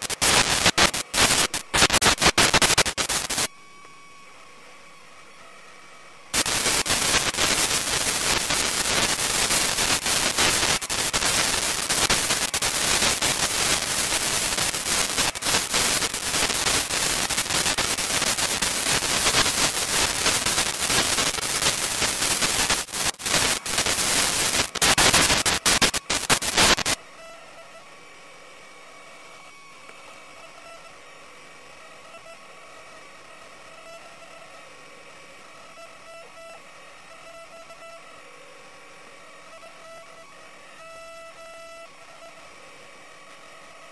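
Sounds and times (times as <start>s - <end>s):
crackling static: 0.0s - 43.9s
faint hum: 0.0s - 43.9s.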